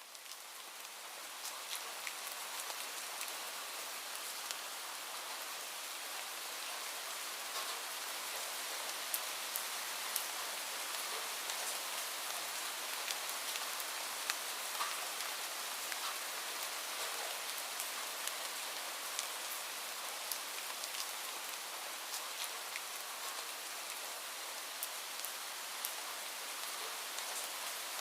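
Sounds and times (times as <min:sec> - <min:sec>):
steady rain hiss: 0:00.0 - 0:28.0
raindrops ticking nearby: 0:00.1 - 0:04.7, 0:07.4 - 0:28.0.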